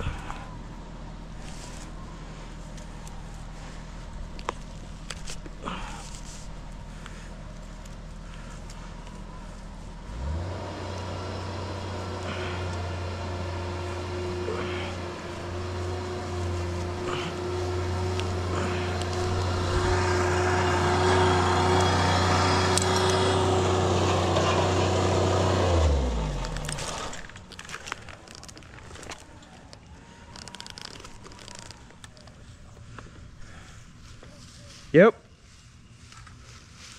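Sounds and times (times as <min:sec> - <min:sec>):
engine running with low hum: 0:00.0 - 0:36.9.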